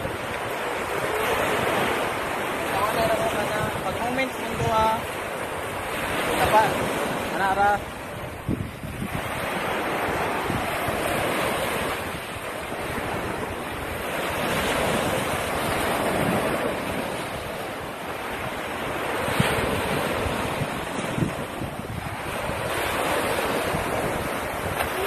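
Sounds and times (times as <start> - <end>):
sea waves breaking on shore: 0.0 - 25.0
wind buffeting microphone: 0.0 - 25.0.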